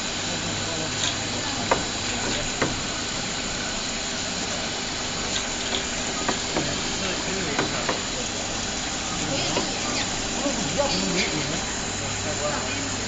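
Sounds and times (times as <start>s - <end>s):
extrusion machine hissing: 0.0s - 13.0s.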